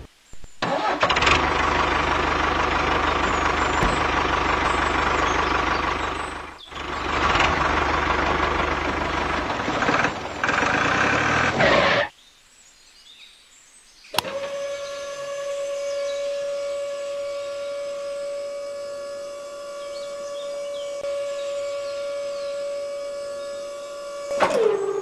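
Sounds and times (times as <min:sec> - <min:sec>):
tractor engine chugging: 0:00.6 - 0:12.1, 0:14.2 - 0:25.0.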